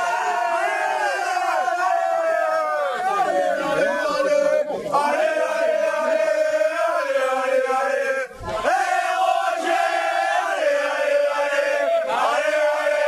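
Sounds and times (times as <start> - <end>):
supporters chanting: 0.0 - 13.0.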